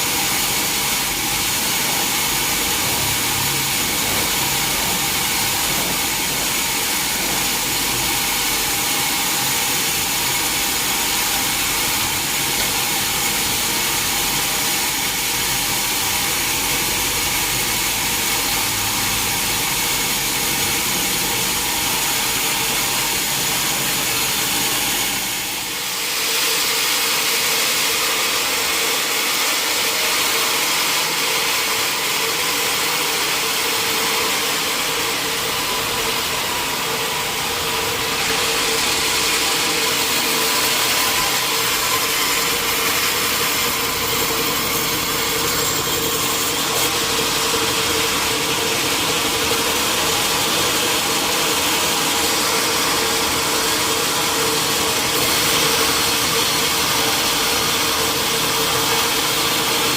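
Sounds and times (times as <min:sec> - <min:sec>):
sawmill saw whirring: 0:00.0 - 0:59.9.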